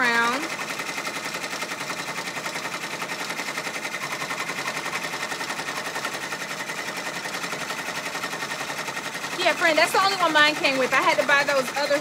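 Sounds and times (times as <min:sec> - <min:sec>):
embroidery machine needle clatter: 0:00.0 - 0:12.0.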